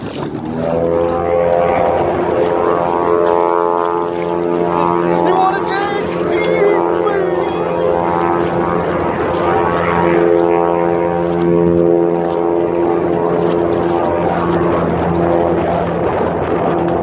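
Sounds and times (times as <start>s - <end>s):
choppy water: 0.0s - 17.0s
steady engine drone: 0.0s - 17.0s.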